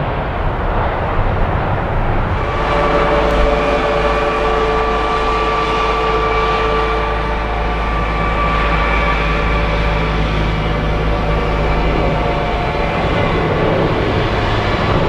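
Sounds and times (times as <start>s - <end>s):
jet engines roaring and whining: 0.0s - 15.0s.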